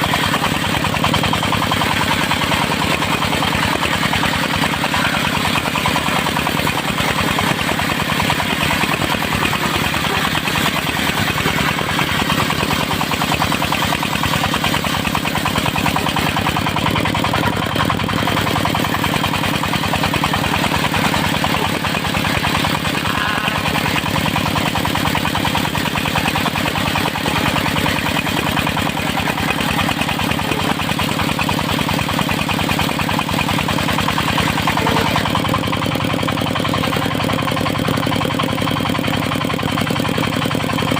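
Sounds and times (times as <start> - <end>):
diesel engine driving sawmill: 0.0 - 40.9.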